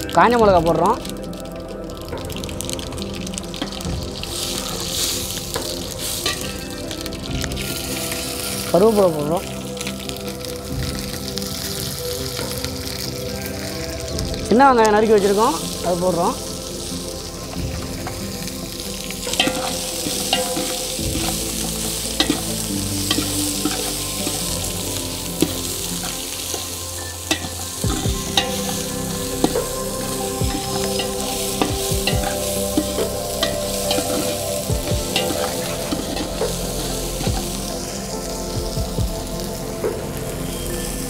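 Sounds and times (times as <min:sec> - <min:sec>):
shallots sizzling in oil: 0:00.0 - 0:41.0.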